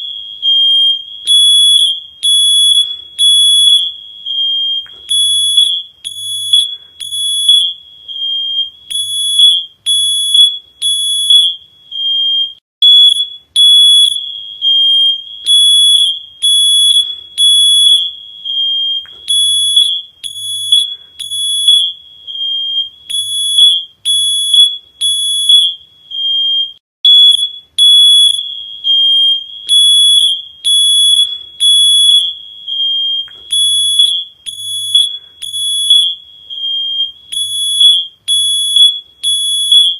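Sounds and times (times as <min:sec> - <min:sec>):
smoke alarm beeping: 0:00.0 - 0:39.9.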